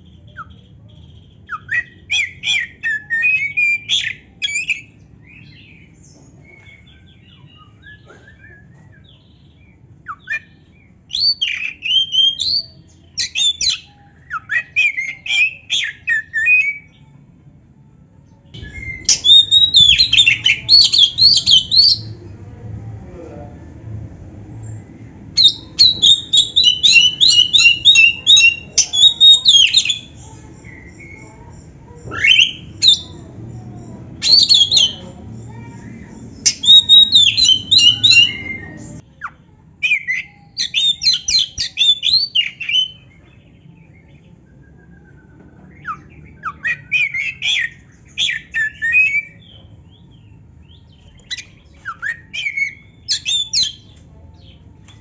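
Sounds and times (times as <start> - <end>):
magpie-robin singing: 0.0 - 17.1, 18.4 - 22.2, 24.6 - 55.0.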